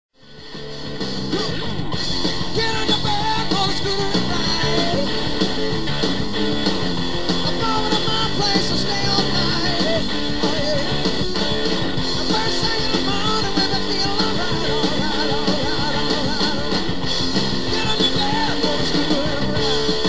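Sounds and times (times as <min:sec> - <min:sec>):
rock music with gliding notes: 0:00.2 - 0:20.0.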